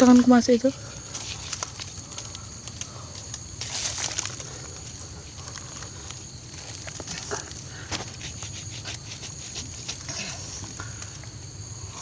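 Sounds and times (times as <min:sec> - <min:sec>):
steady high hiss: 0:00.0 - 0:12.0
hands and tool scraping soil: 0:01.0 - 0:11.1.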